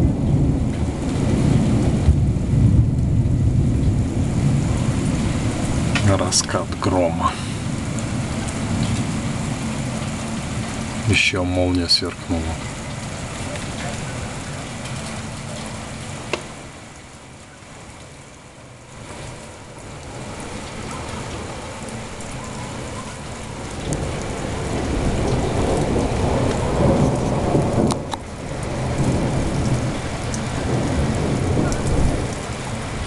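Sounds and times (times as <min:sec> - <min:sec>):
distant thunder rumbling: 0:00.0 - 0:17.2, 0:18.7 - 0:33.0
steady rain falling: 0:00.0 - 0:33.0.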